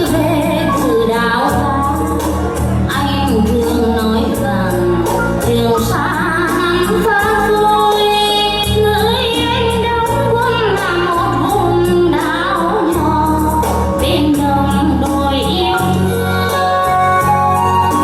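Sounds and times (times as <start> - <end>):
woman singing with backing band: 0.0 - 18.0.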